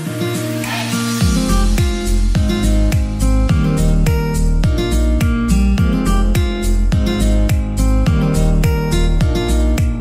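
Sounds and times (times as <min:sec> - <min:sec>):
upbeat music with kick drum: 0:00.0 - 0:10.0.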